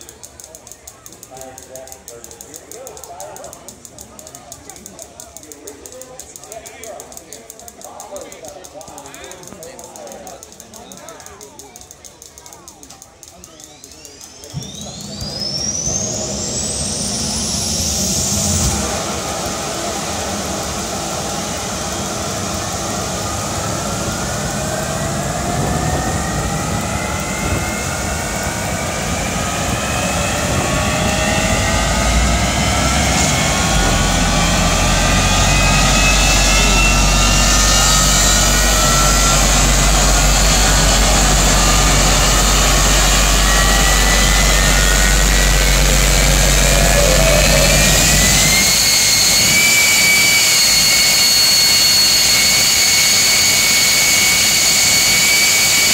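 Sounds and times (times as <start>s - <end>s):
jet engine whine and rumble: 0.0s - 55.9s.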